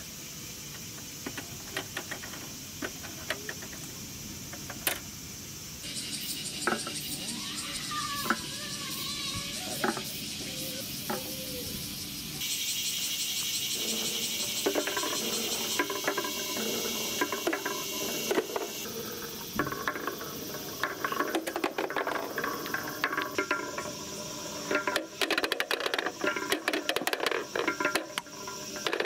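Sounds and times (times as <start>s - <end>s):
steady high hiss: 0.0s - 29.0s
small balls rolling on wooden slats: 0.5s - 10.2s, 12.4s - 29.0s.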